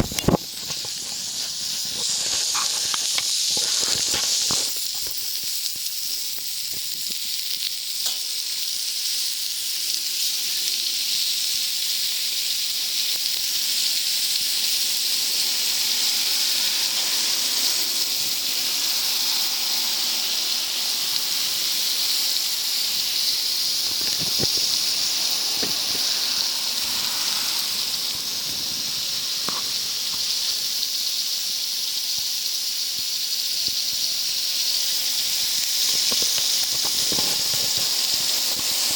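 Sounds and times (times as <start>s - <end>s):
food sizzling on hot plate: 0.0s - 38.9s.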